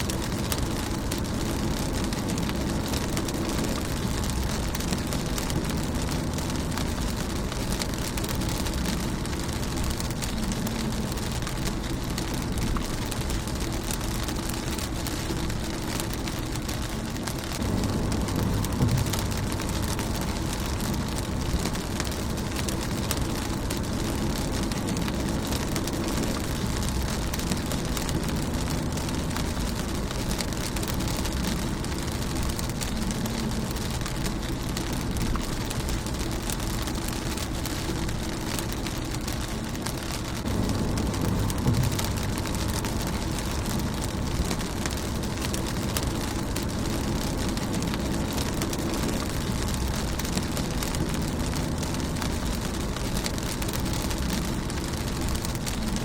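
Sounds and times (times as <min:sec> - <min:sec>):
low rumble: 0:00.0 - 0:56.0
rain on car windshield: 0:00.0 - 0:56.0.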